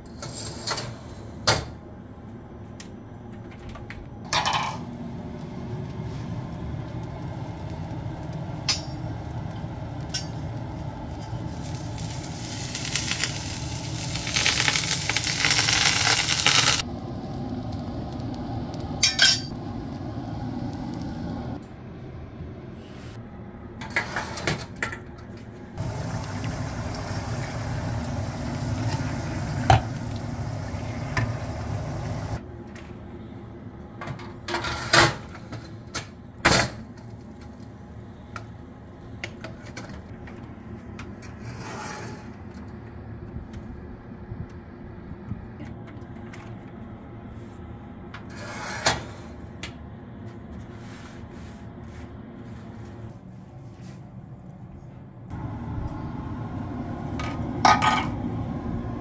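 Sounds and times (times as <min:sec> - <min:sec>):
steady fan hum: 0:01.2 - 0:41.4, 0:42.2 - 0:59.0.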